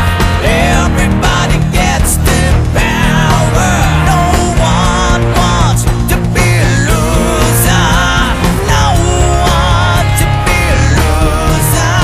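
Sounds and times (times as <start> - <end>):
bass line: 0.0 - 12.0
drums with cymbal hits: 0.0 - 12.0
rock band playing: 0.0 - 12.0.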